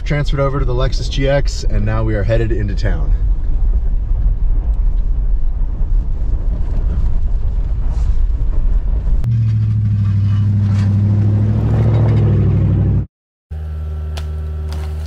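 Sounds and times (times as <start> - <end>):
car cabin road rumble: 0.0 - 15.0
low engine hum: 0.0 - 15.0.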